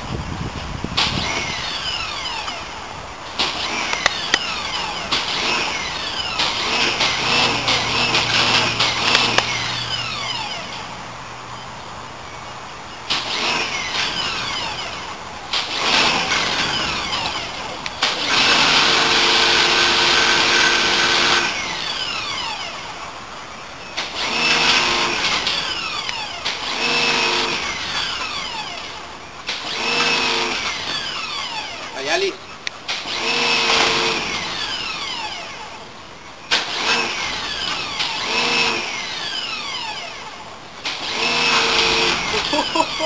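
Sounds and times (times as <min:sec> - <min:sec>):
pump motor running: 0:01.0 - 0:11.1, 0:13.1 - 0:23.2, 0:24.0 - 0:32.0, 0:32.8 - 0:43.0.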